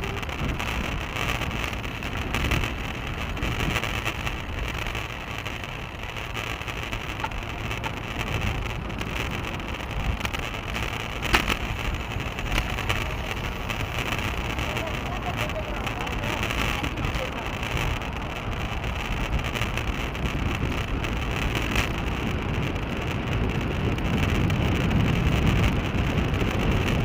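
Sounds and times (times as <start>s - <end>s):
road bike rumbling on pavement: 0.0s - 27.0s
wind noise on microphone: 0.0s - 27.0s.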